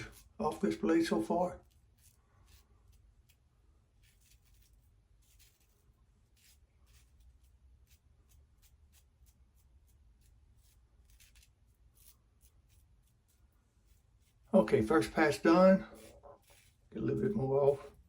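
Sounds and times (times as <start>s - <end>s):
razor scraping stubble: 0.0s - 18.0s.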